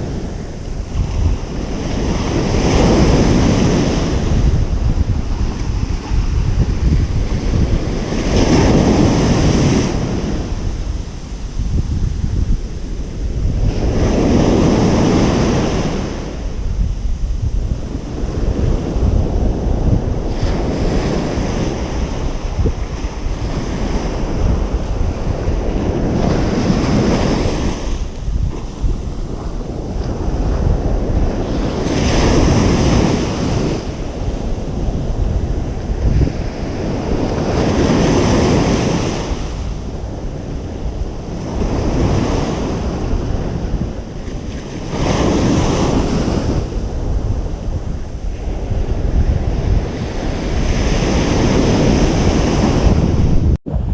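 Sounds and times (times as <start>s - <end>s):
ocean waves on beach: 0.0s - 53.9s
wind on microphone: 0.0s - 53.9s.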